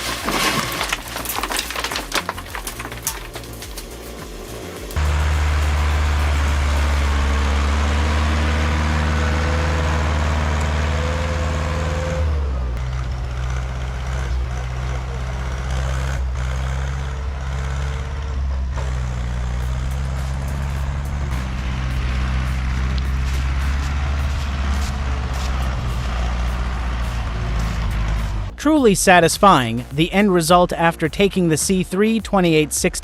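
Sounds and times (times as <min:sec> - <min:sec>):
heavy machine engine running: 0:00.0 - 0:30.1.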